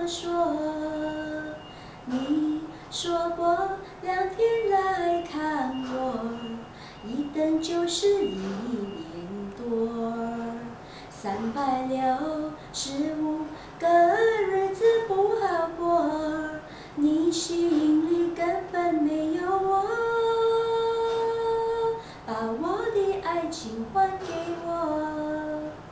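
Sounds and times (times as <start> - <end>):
woman singing unaccompanied: 0.0 - 25.9.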